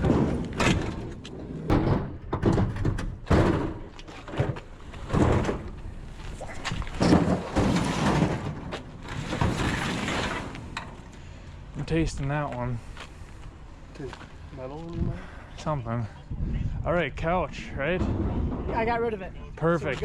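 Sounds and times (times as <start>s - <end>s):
heavy junk banging and thudding: 0.0s - 13.7s, 17.6s - 20.0s.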